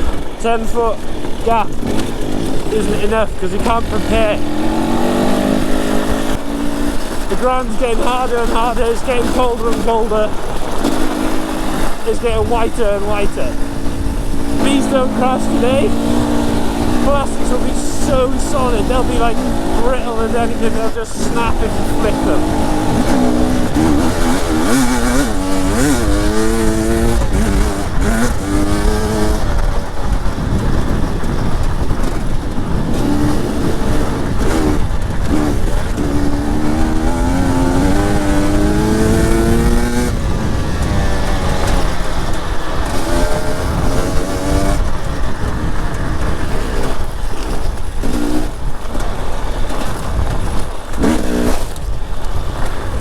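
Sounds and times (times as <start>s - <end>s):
dirt bike engine revving: 0.0s - 53.0s
steady rushing noise: 0.0s - 53.0s.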